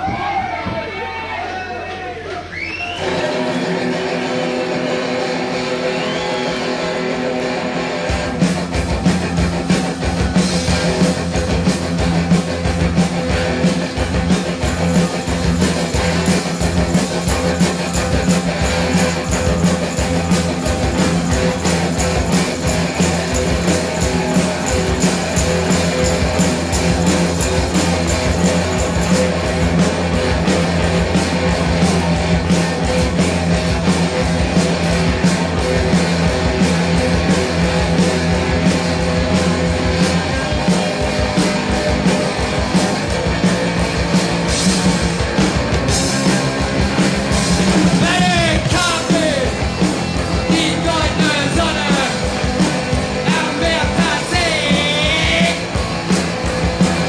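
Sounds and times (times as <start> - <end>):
guitar-driven rock music: 0.0 - 57.0.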